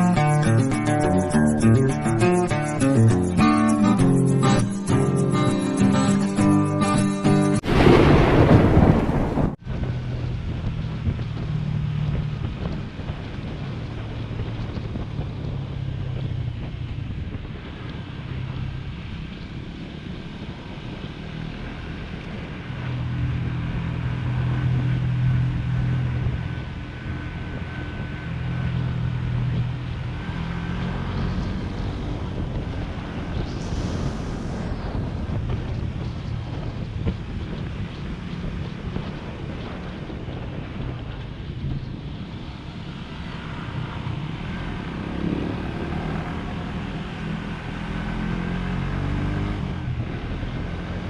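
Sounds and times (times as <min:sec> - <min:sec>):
wind buffeting microphone: 0:00.0 - 0:51.0
motorcycle engine running: 0:09.7 - 0:51.0.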